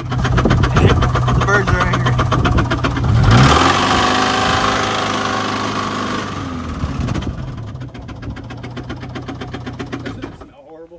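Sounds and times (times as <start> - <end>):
car engine knocking: 0.0 - 10.6.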